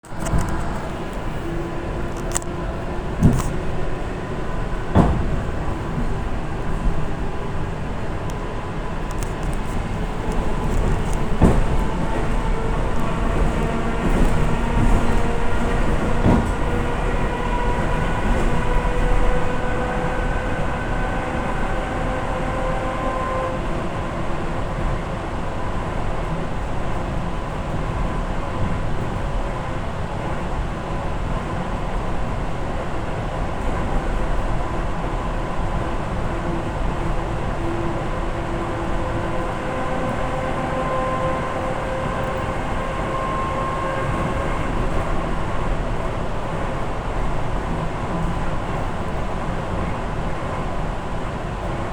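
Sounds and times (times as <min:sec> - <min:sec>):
train rumbling: 0:00.0 - 0:51.9.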